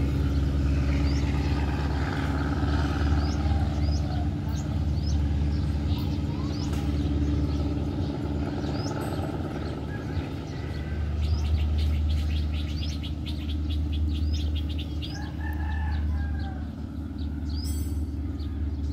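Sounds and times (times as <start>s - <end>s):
birds chirping: 0.0s - 18.9s
diesel locomotive drone: 0.0s - 18.9s.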